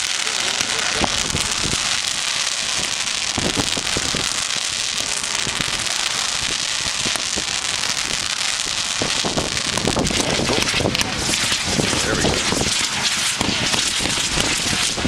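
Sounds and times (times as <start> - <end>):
fireworks crackling: 0.0 - 15.0
fireworks sharp pops: 0.0 - 15.0.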